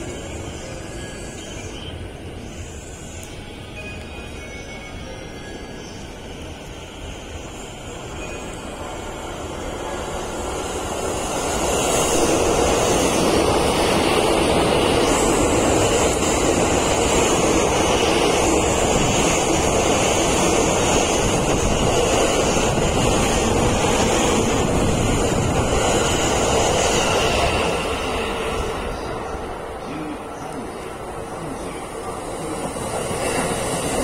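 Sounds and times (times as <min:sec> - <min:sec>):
electric train passing at speed: 0:00.0 - 0:34.0.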